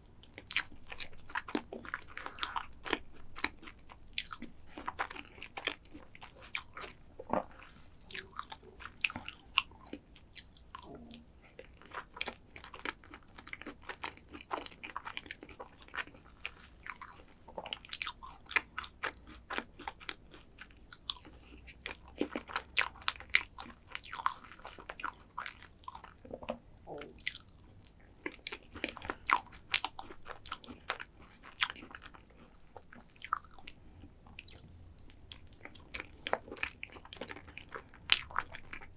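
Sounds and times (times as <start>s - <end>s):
person chewing crunchy food: 0.1s - 38.9s.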